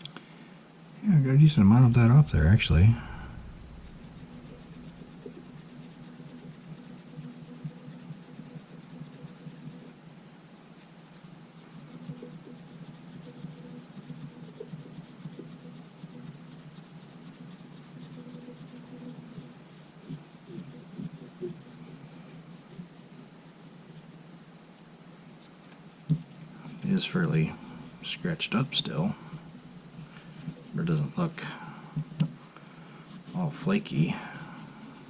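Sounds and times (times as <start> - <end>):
steady low hum: 0.0 - 35.0
rubbing and scratching on glass: 1.4 - 10.0, 10.8 - 24.2, 26.5 - 32.2, 33.1 - 35.0.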